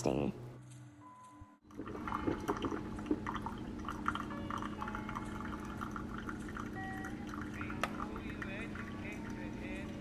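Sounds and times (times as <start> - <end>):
coffee pouring into mug: 1.6 - 10.0
coffee maker low hum: 1.7 - 10.0.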